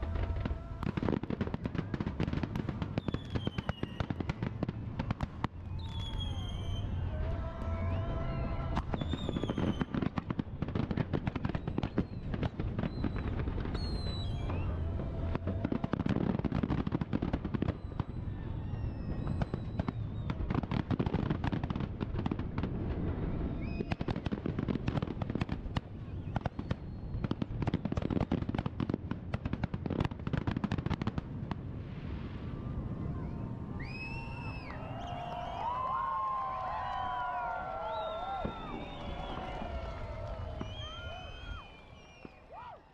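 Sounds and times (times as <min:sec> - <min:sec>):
firework whistles: 0:00.0 - 0:04.4, 0:05.4 - 0:21.1, 0:22.9 - 0:24.5, 0:26.0 - 0:28.4, 0:32.2 - 0:42.8
fireworks bursting and crackling: 0:00.0 - 0:42.9.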